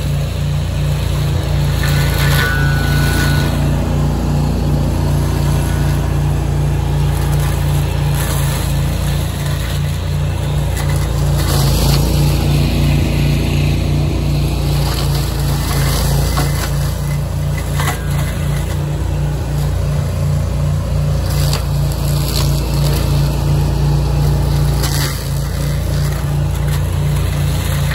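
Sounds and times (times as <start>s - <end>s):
cutting head grinding brush: 0.0s - 27.9s
mulcher engine running: 0.0s - 27.9s.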